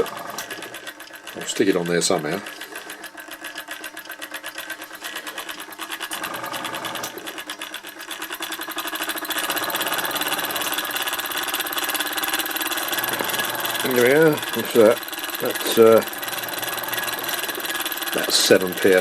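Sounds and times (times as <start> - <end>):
model steam engine exhaust beats: 0.0 - 19.0.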